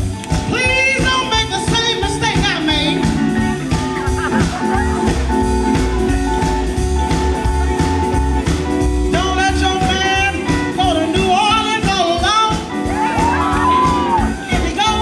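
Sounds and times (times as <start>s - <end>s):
blues band playing: 0.0s - 15.0s.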